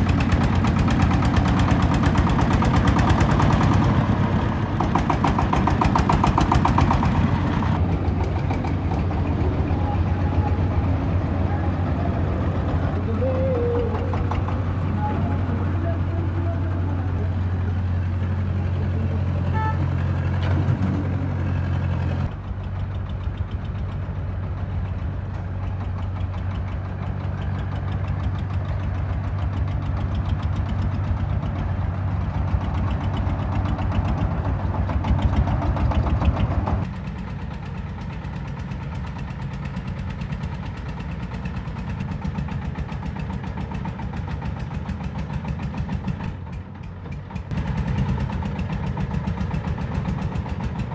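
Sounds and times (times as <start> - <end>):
heavy machinery engine running: 0.0 - 50.9.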